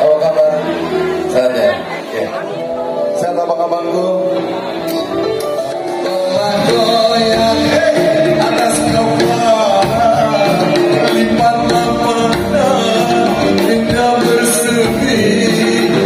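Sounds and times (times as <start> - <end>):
live band playing: 0.0 - 16.0
man singing into microphone: 0.0 - 16.0.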